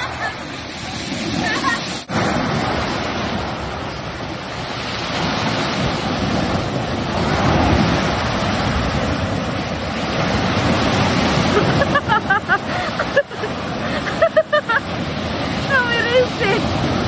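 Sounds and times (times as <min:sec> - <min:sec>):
sea surf washing ashore: 0:00.0 - 0:17.0.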